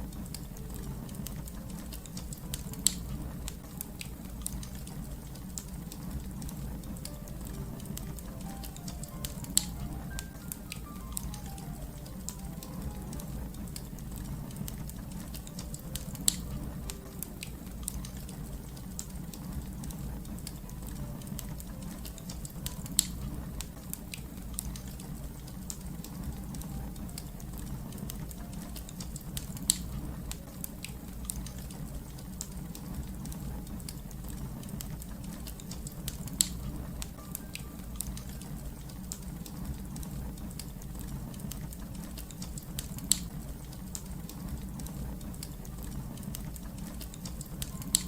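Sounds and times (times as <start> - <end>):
low rumble of fire: 0.0 - 48.0
wood fire crackling: 0.0 - 48.0.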